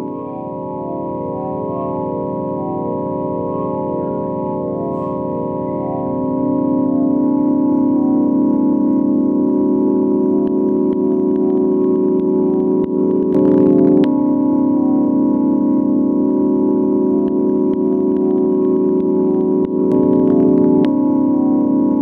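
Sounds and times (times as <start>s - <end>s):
electronic organ-like drone: 0.0s - 22.0s.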